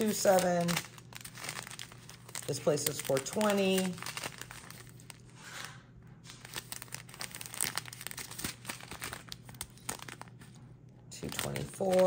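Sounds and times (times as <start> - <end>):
plastic foil pouches crinkling: 0.0 - 10.5, 11.2 - 12.0.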